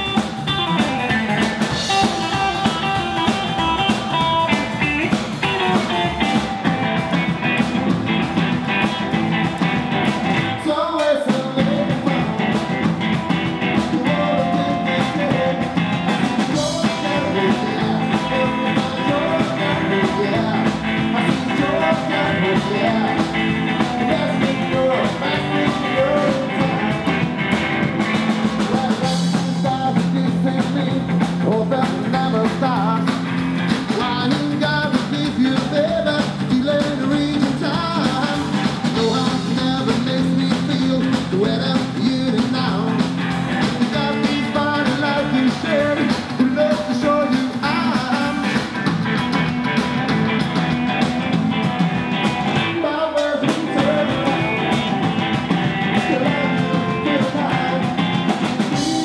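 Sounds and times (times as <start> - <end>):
man singing: 0.0 - 6.7, 10.3 - 27.6, 28.2 - 48.9, 52.5 - 59.0
rockabilly band playing: 0.0 - 59.0.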